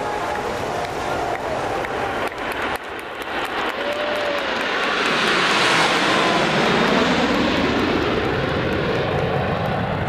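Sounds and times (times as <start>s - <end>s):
jets roaring overhead: 0.0s - 10.0s.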